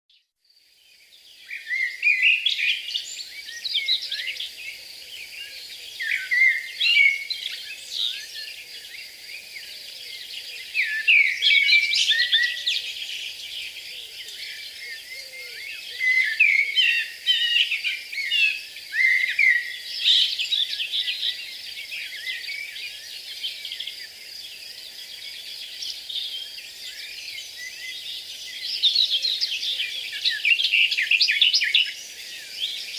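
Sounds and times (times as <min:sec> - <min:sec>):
songbirds chirping and trilling: 0:00.2 - 0:32.9.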